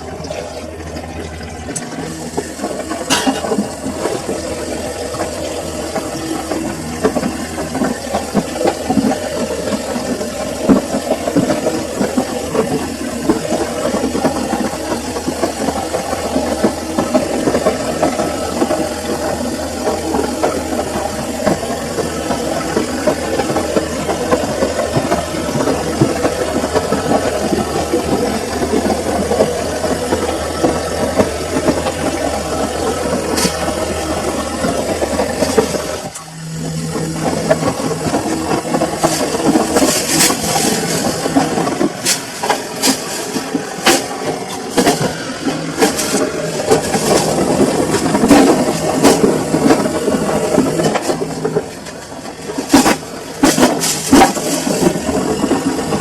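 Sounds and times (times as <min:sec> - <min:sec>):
washing machine running: 0:00.0 - 0:56.0
drum rattling and knocking: 0:02.3 - 0:36.1, 0:36.8 - 0:56.0.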